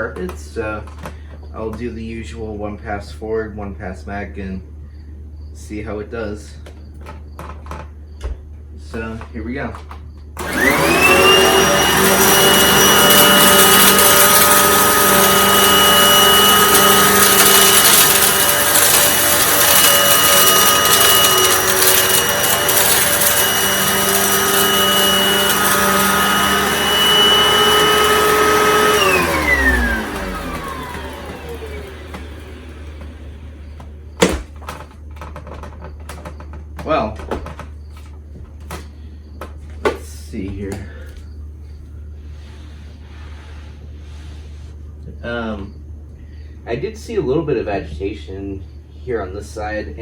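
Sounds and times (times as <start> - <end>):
vacuum cleaner whining: 0.0 - 2.1, 7.0 - 45.4.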